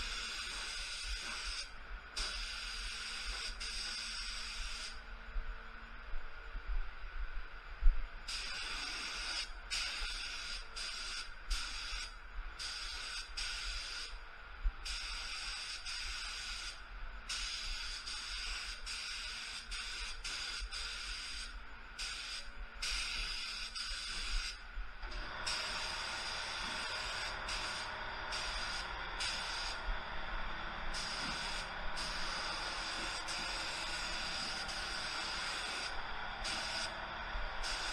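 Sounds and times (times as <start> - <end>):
paint spray gun hissing: 0.0 - 5.0, 8.3 - 14.2, 14.8 - 29.9, 30.8 - 37.9.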